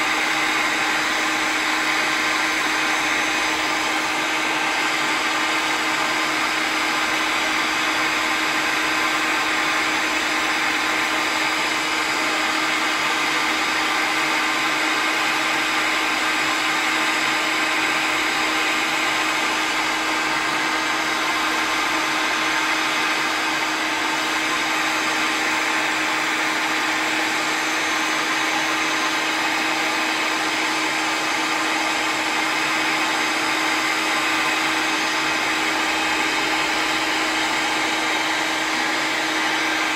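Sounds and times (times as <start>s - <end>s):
heat gun blowing hot air: 0.0s - 39.9s.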